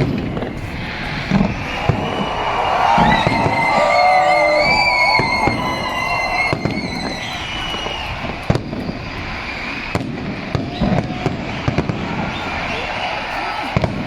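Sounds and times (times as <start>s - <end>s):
sharp firework cracks: 0.0s - 12.3s
fireworks bursts rumbling: 0.0s - 14.0s
high whistling fireworks: 0.0s - 14.0s.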